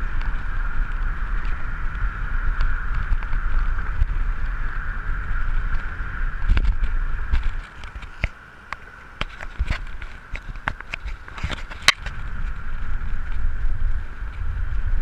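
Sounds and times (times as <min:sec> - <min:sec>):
bike whirring hum: 0:00.0 - 0:15.0
wind rumbling on microphone: 0:00.0 - 0:15.0.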